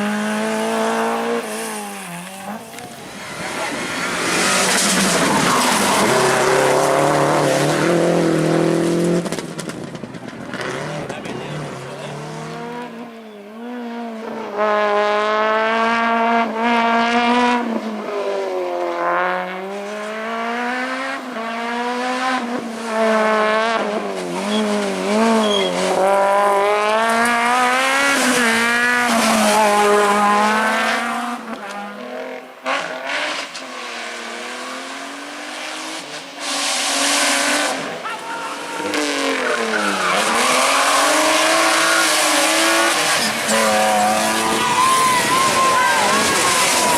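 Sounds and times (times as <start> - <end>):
rally car engine revving: 0.0 - 46.9.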